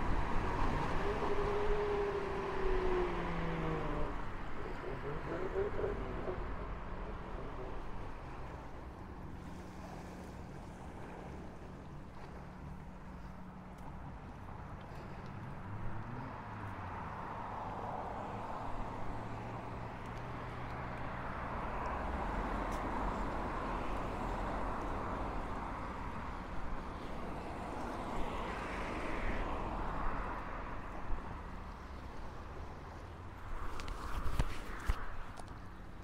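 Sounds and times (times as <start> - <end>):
low engine hum: 0.0 - 36.0
road traffic passing: 0.0 - 36.0.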